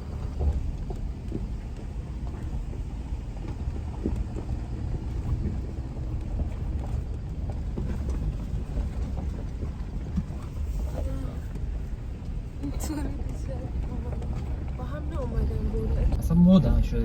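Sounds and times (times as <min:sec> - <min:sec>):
car rumbling on dirt road: 0:00.0 - 0:17.0.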